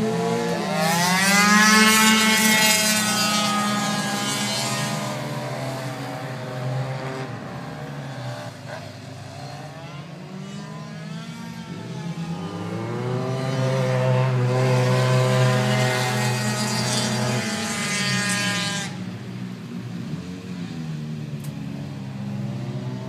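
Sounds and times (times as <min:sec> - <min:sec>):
racing motorcycle engines: 0:00.0 - 0:23.0.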